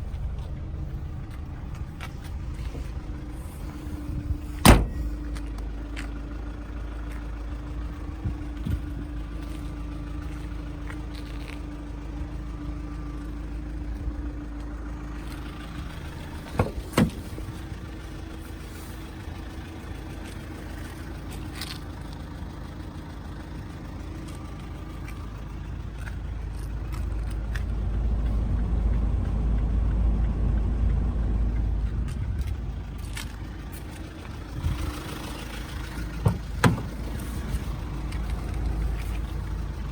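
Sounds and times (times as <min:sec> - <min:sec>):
motor vehicle rumbling: 0:00.0 - 0:39.9.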